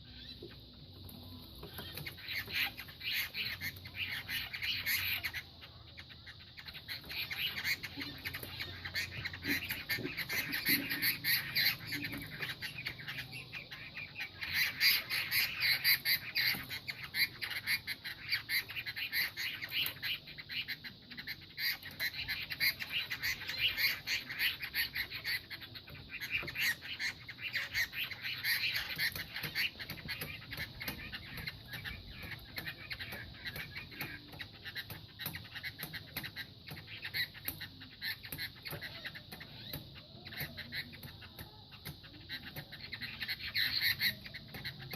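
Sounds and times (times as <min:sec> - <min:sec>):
songbirds chattering: 0:00.0 - 0:44.9.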